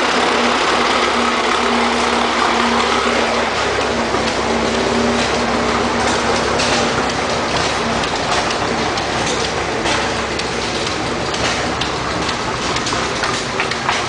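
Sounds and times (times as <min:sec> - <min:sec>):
engines clattering: 0:00.0 - 0:14.0
steady hum: 0:00.0 - 0:14.0.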